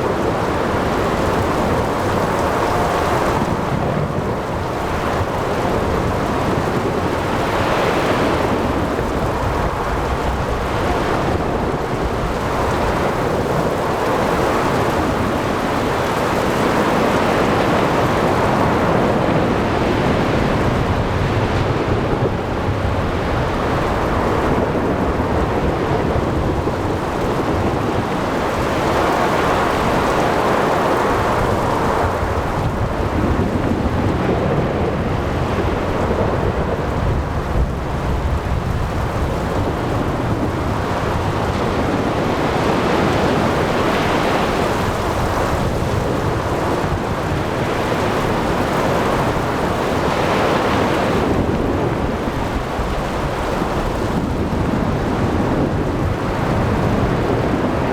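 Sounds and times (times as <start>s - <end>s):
heavy rain: 0.0s - 57.9s
wind: 0.0s - 57.9s.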